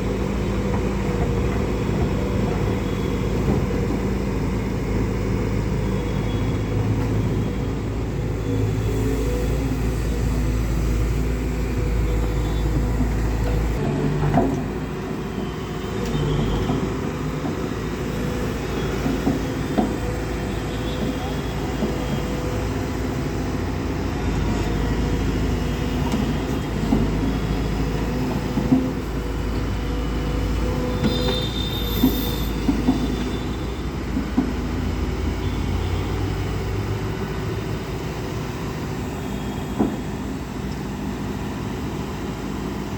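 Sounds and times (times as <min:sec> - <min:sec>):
heavy vehicle rumbling: 0:00.0 - 0:42.9.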